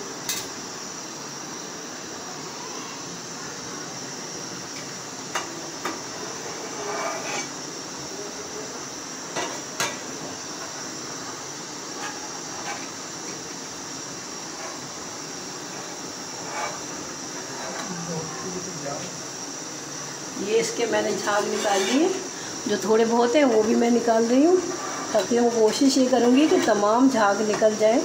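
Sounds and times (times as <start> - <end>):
boiling hiss: 0.0 - 28.0.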